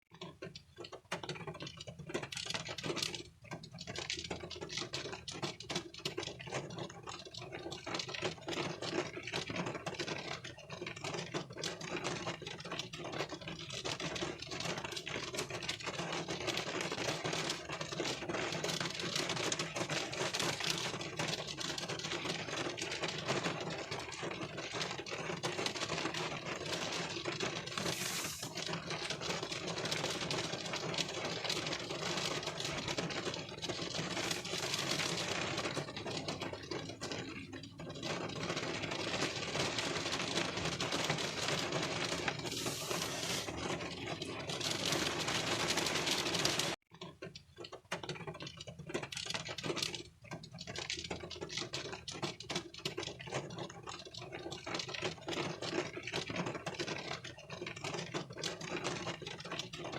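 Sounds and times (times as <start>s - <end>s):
rain on car windshield: 0.1s - 59.9s.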